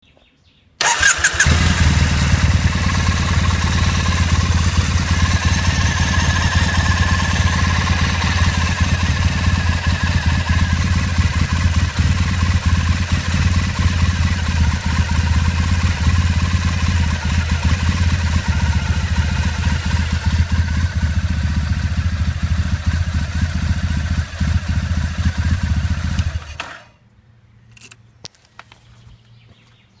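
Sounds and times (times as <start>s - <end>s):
motorcycle engine idling: 0.8s - 26.8s.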